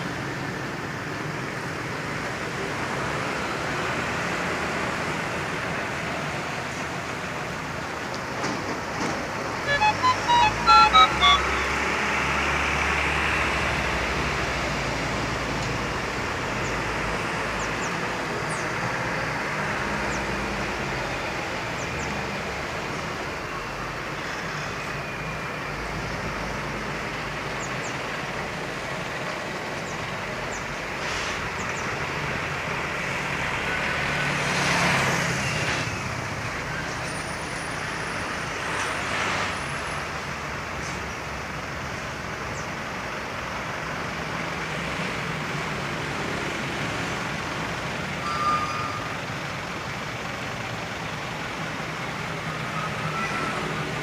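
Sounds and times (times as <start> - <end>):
passing trucks traffic noise: 0.0 - 54.0.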